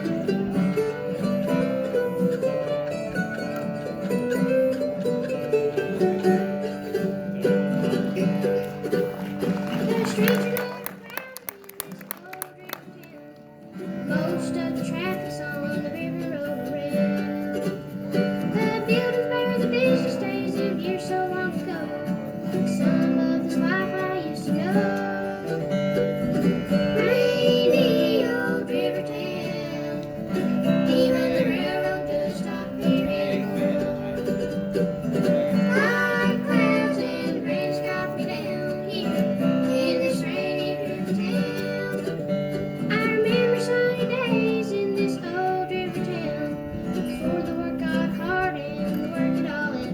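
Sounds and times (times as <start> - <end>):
bluegrass band playing: 0.0 - 49.9.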